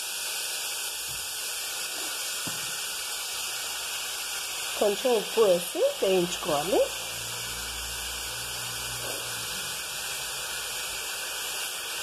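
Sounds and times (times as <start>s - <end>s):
vegetables sizzling in fat: 0.0s - 12.0s.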